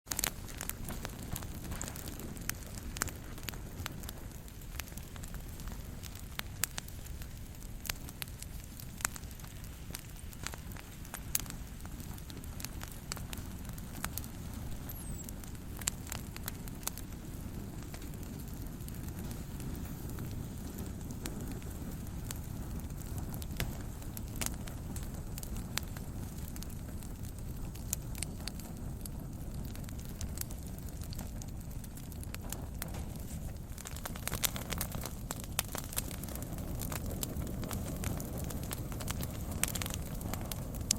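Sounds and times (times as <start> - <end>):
burning twigs crackling and popping: 0.0 - 40.9
fire rumbling: 0.1 - 40.9.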